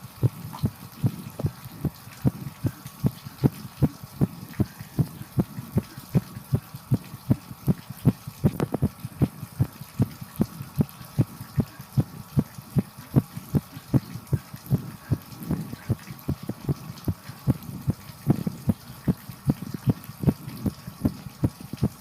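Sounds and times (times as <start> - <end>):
shower water hiss: 0.0 - 22.0
heartbeat thumping: 0.2 - 22.0.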